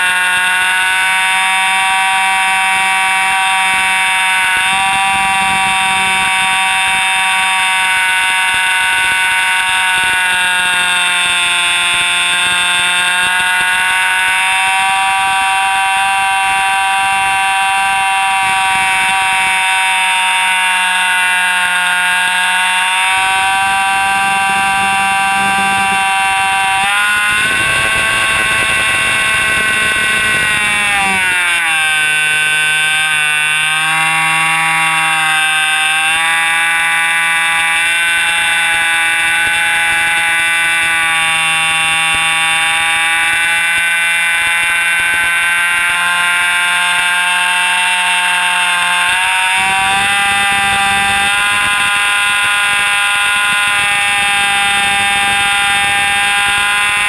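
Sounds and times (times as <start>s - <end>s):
model plane engine whine: 0.0s - 57.0s.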